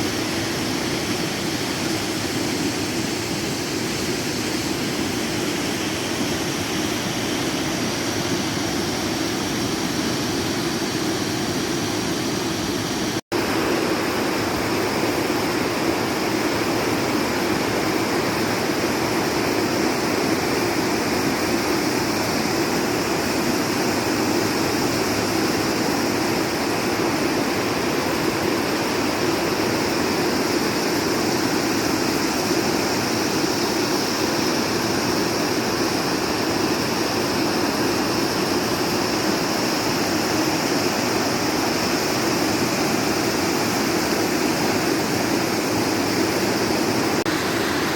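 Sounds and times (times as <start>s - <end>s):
steady rushing noise: 0.0s - 47.9s.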